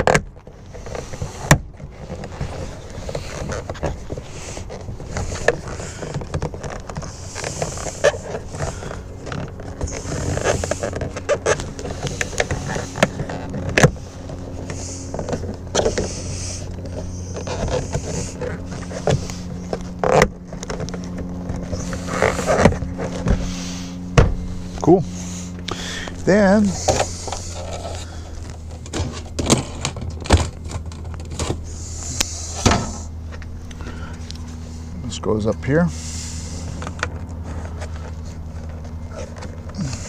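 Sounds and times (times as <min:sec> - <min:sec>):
clicks knocks and scrapes of parts: 0:00.0 - 0:23.5, 0:25.6 - 0:34.6, 0:36.6 - 0:40.0
steady low hum: 0:00.0 - 0:40.0.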